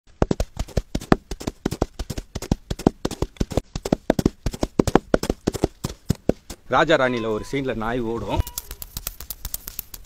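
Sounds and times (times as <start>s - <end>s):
coconut shell hoofbeats on grit: 0.1s - 7.0s, 8.4s - 10.0s.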